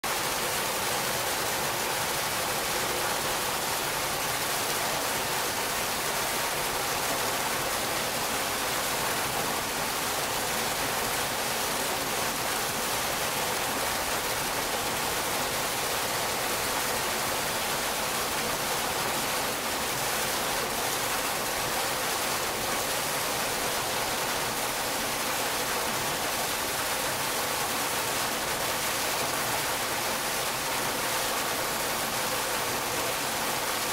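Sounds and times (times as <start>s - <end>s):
fountain water splashing: 0.0s - 33.9s.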